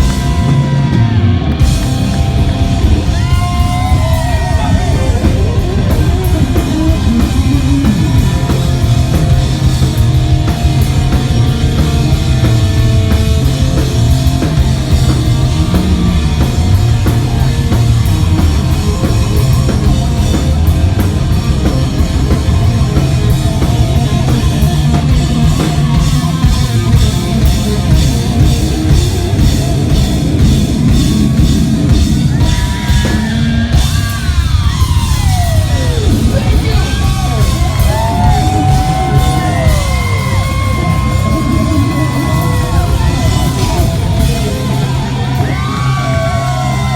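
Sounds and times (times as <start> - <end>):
live rock band playing: 0.0 - 46.9
pounding drum kit: 0.0 - 46.9.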